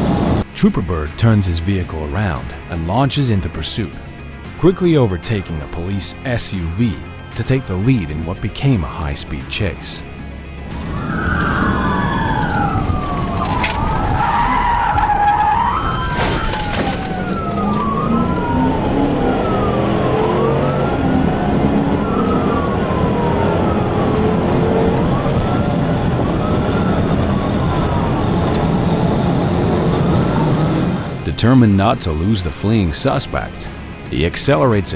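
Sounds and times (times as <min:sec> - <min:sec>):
car engine accelerating: 0:00.0 - 0:34.9
road and wind noise: 0:00.0 - 0:34.9
police siren wailing: 0:01.9 - 0:34.3.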